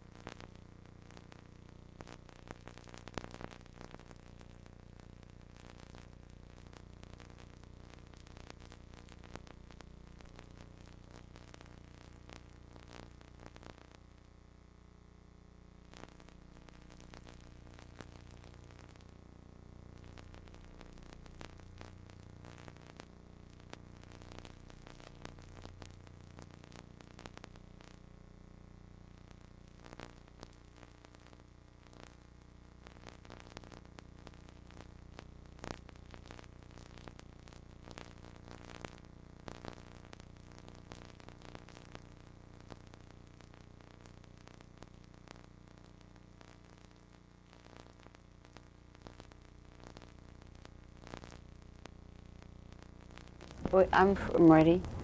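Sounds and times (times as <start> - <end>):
tape hiss and hum: 0.0 - 55.0
clicks and crackles: 0.2 - 14.3, 20.0 - 28.0, 29.1 - 53.8.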